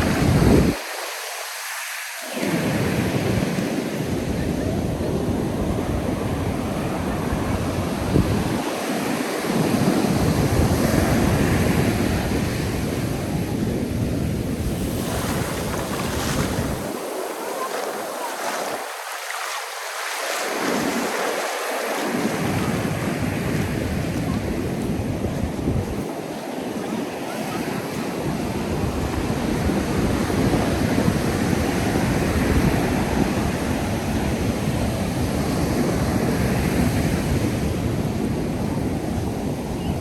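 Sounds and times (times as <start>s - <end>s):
wind buffeting microphone: 0.0s - 0.8s, 2.4s - 17.5s, 21.8s - 40.0s
ocean surf breaking on beach: 0.0s - 40.0s.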